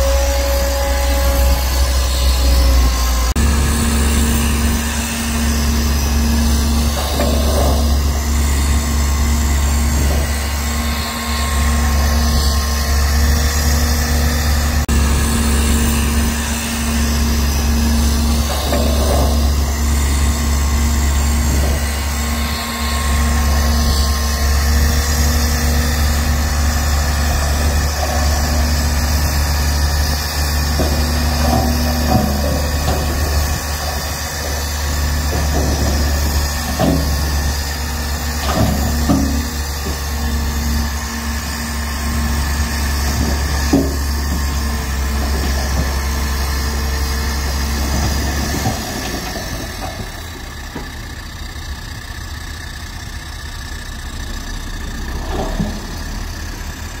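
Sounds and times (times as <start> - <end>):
diesel machinery droning: 0.0 - 57.0.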